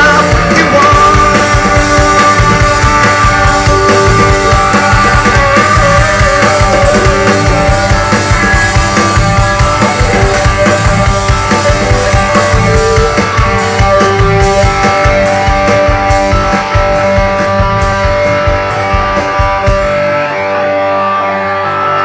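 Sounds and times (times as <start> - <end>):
rock band playing live: 0.0 - 22.0.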